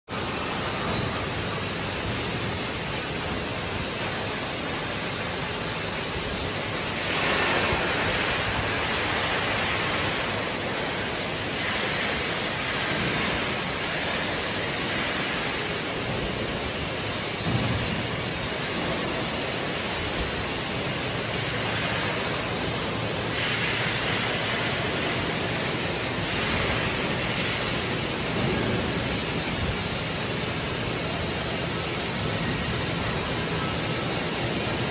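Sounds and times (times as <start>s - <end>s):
welding arc hissing: 0.1s - 34.9s.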